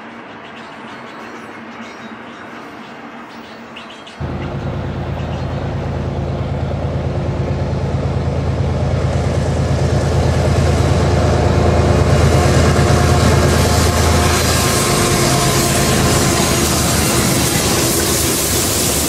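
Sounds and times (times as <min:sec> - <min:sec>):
diesel locomotive engines droning: 0:00.0 - 0:19.0.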